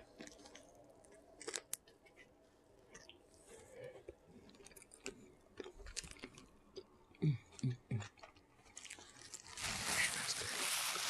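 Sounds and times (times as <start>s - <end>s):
chewing and lip smacking: 0.0s - 9.4s.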